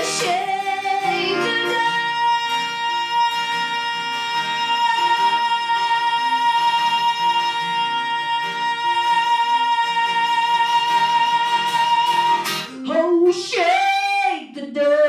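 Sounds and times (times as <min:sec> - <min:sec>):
acoustic guitar playing: 0:00.0 - 0:14.3.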